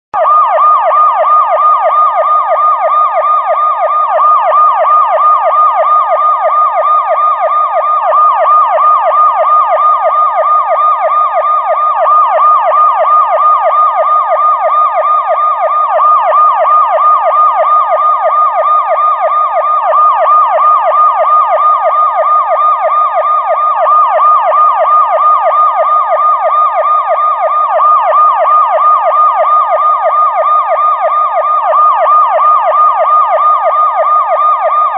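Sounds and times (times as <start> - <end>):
police siren yelping: 0.2 - 34.9.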